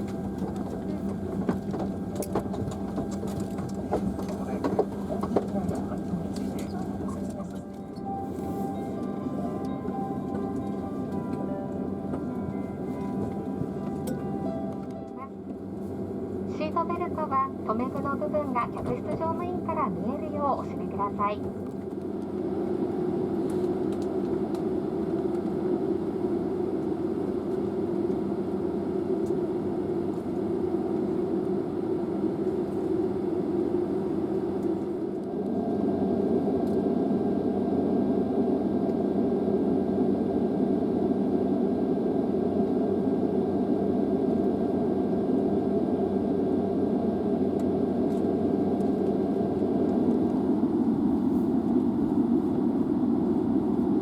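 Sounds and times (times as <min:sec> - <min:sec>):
airliner cabin ventilation hum: 0:00.0 - 0:54.0.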